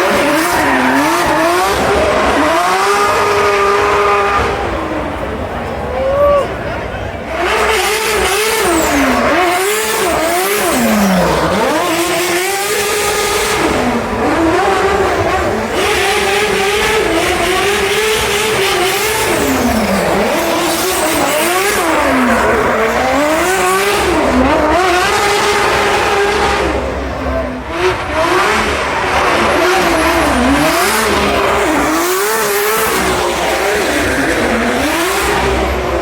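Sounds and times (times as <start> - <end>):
car engine revving hard: 0.0 - 5.9, 7.1 - 36.0.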